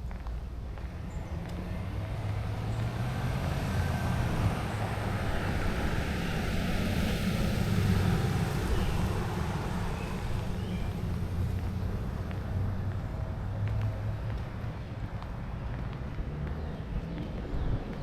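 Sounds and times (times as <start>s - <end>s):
passing vehicle rumble: 0.8s - 18.0s.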